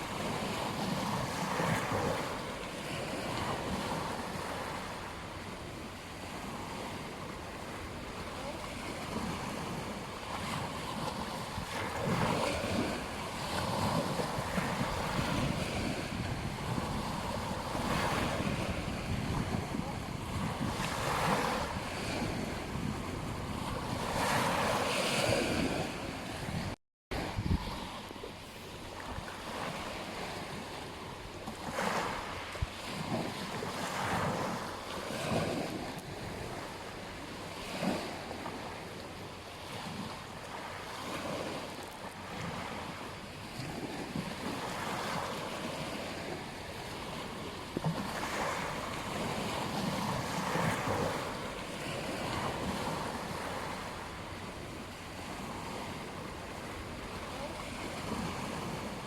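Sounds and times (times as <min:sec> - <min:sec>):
wind on microphone: 0:00.0 - 0:39.0, 0:42.3 - 0:59.0
ocean waves breaking: 0:00.0 - 0:59.0.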